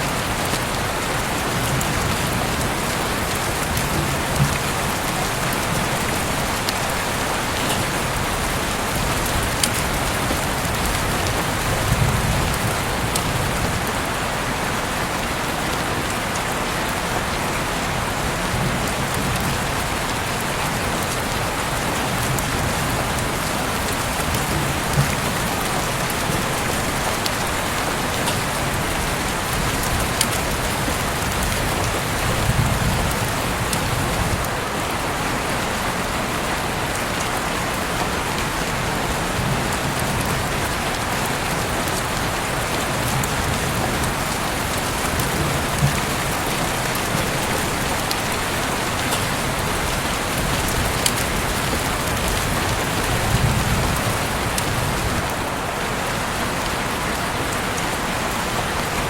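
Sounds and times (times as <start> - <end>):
heavy rain hissing: 0.0 - 59.0
rain drops ticking: 0.0 - 59.0.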